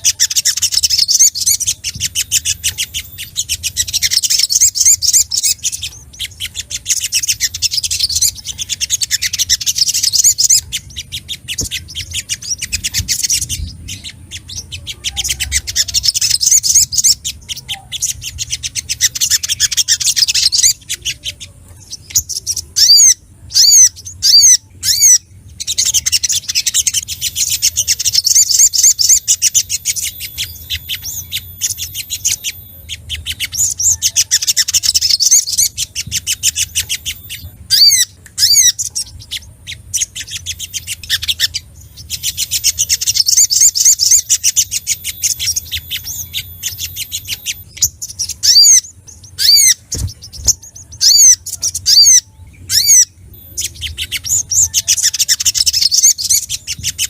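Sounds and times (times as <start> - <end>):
bird calling with chattering trills: 0.0 - 57.0.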